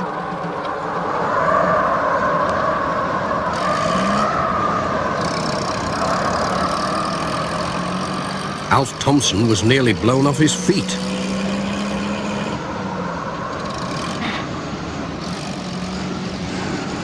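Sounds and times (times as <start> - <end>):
gusting wind with whistle: 0.0 - 10.6, 11.6 - 17.0.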